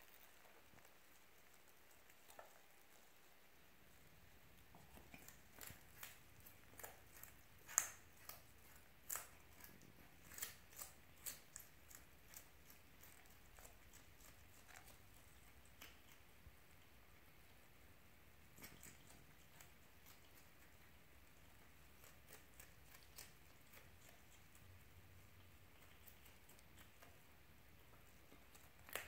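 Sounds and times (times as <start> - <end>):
animal crunching carrot: 0.0 - 29.0.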